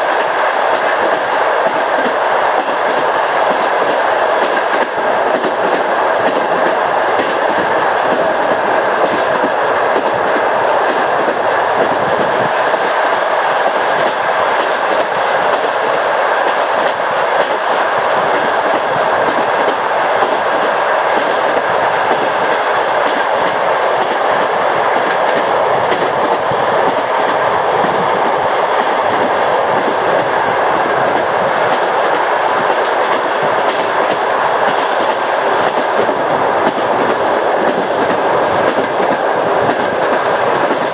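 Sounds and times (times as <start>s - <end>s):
train rolling noise: 0.0s - 40.9s
train wheels clattering over rail joints: 0.0s - 40.9s.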